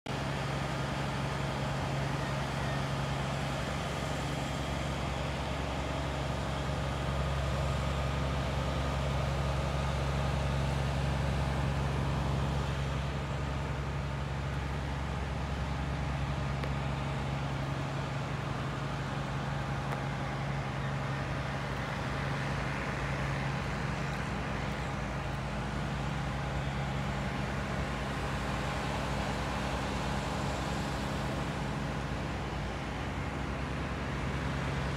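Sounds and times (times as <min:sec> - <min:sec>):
low engine hum: 0:00.1 - 0:34.9.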